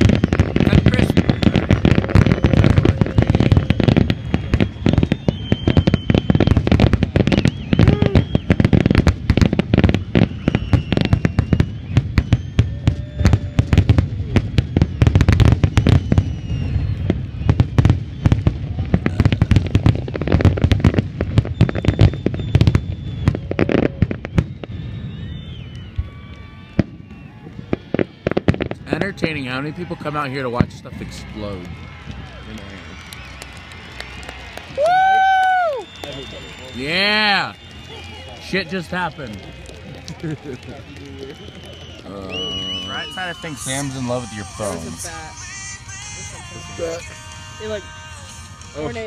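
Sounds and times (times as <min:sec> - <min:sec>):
fireworks bursting: 0:00.0 - 0:49.0.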